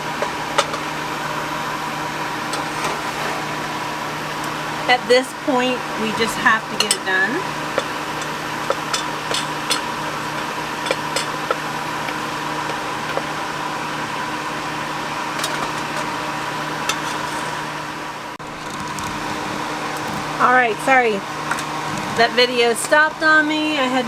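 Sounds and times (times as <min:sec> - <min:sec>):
electric fan hum: 0:00.0 - 0:24.0.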